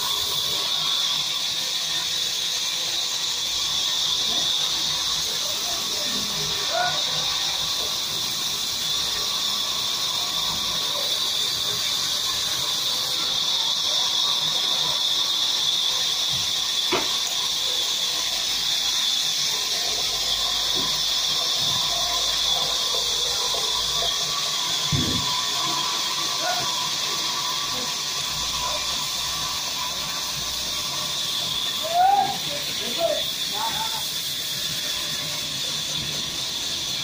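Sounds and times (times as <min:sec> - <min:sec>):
band saw whining: 0:00.0 - 0:37.0.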